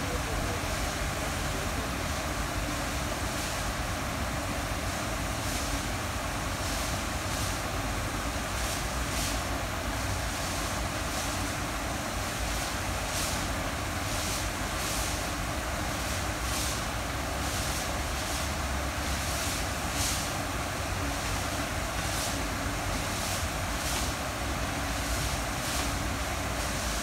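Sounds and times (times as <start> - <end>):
waterfall splashing into pond: 0.0 - 27.0.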